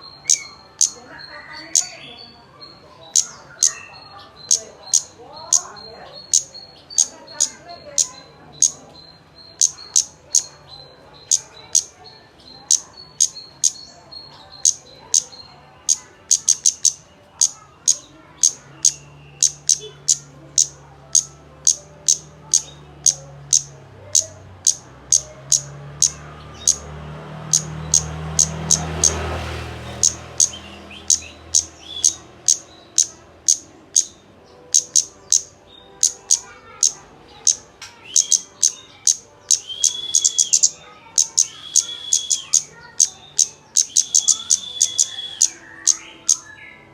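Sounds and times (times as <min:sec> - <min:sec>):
bird chirping: 0:00.0 - 0:46.9
lower rounder bird calls: 0:00.0 - 0:46.9.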